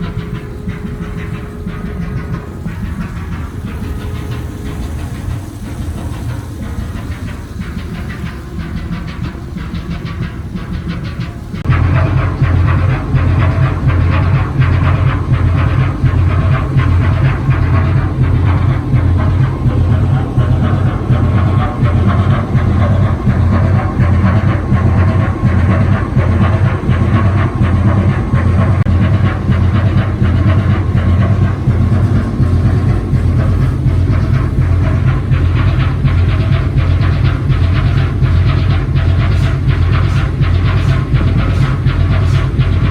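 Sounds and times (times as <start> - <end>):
marine diesel engine droning: 0.0 - 42.9.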